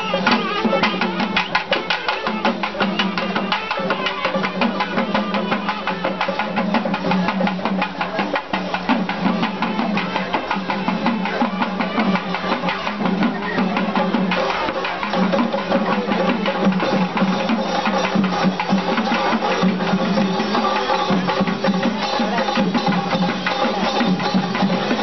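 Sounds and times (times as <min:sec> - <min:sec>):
drum ensemble playing: 0:00.0 - 0:25.0.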